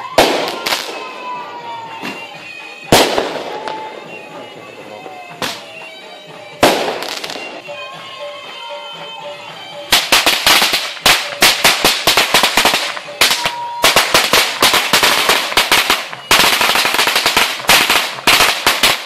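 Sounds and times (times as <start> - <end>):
firecrackers banging: 0.0 - 19.0.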